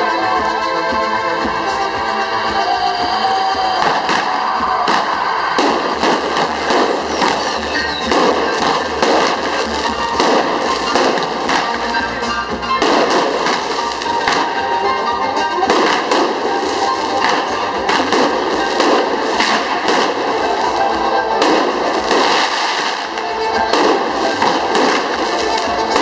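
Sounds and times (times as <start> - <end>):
music: 0.0 - 26.0
aerial fireworks bursting: 3.5 - 26.0.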